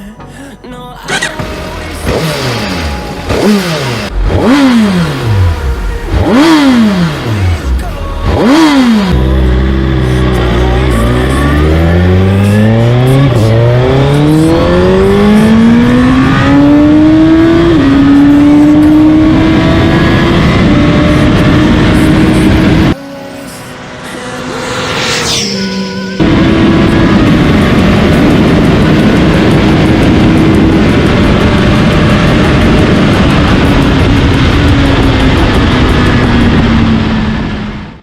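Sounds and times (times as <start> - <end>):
motorcycle accelerating away: 1.1 - 23.0, 23.7 - 38.0
motorcycle engine revving: 1.1 - 23.0, 23.6 - 38.0.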